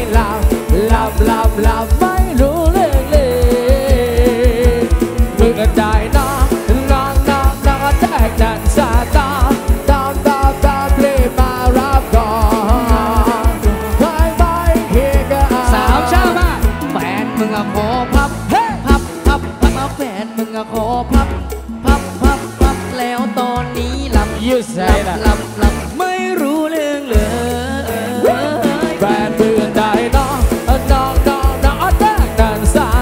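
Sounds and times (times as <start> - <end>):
amplified live band music: 0.0 - 33.0
rapid bass drum beat: 0.0 - 33.0.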